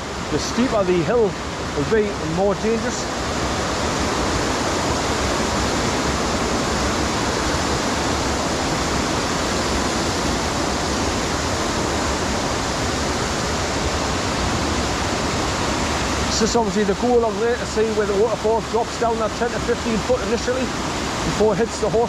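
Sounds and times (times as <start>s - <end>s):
waterfall roaring over rocks: 0.0s - 22.0s.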